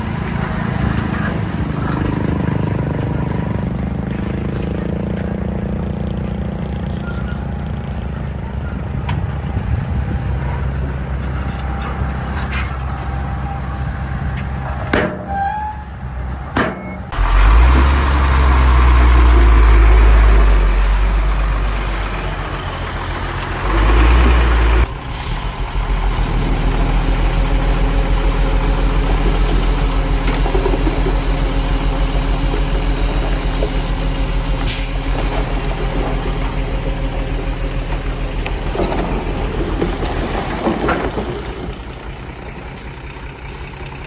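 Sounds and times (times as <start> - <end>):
throbbing diesel engine: 0.0 - 44.0.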